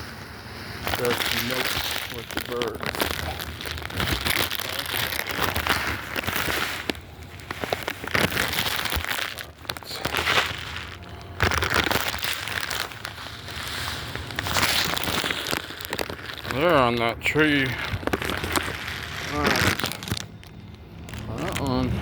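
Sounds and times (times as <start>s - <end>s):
bag of seed crinkling: 0.0s - 22.0s.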